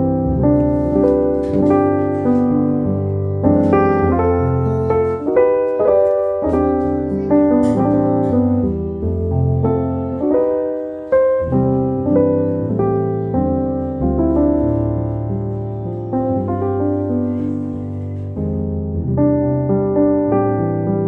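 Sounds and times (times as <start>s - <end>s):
gentle piano tune: 0.0s - 21.0s.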